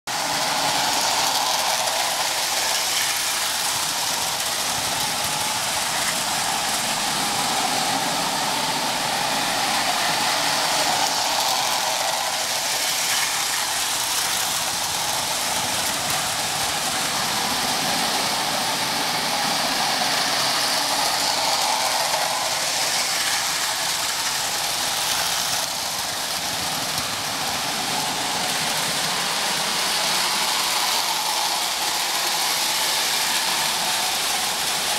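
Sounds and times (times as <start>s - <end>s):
toy train motor hum: 0.1s - 34.9s.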